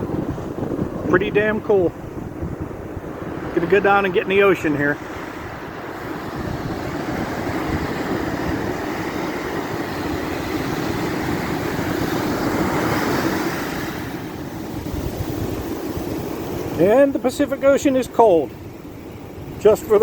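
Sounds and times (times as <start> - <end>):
ocean surf breaking: 0.0 - 20.0
wind buffeting microphone: 0.0 - 20.0.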